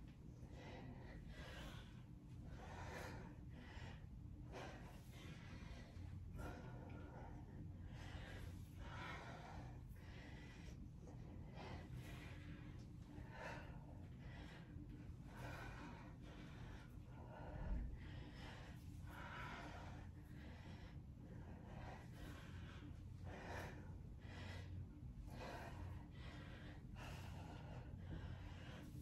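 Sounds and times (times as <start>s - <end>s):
low room hum: 0.0s - 29.0s
woman breathing hard: 0.0s - 29.0s.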